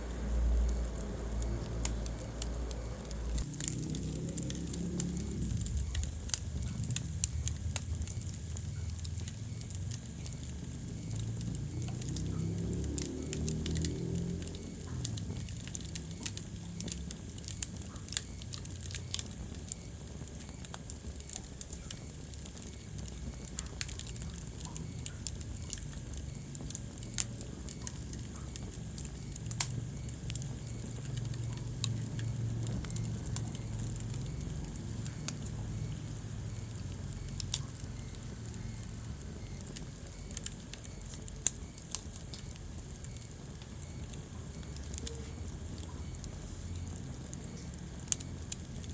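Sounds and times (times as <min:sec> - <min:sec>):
fire burning: 0:00.0 - 0:48.9
fire crackling and popping: 0:00.0 - 0:48.9.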